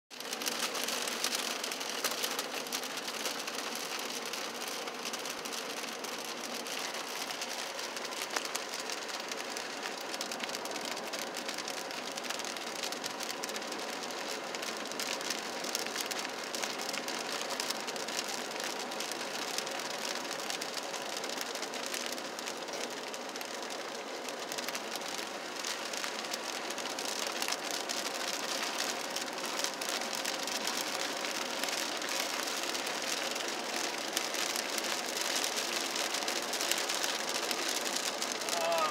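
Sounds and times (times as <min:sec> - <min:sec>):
rain pattering on car roof: 0:00.1 - 0:38.9.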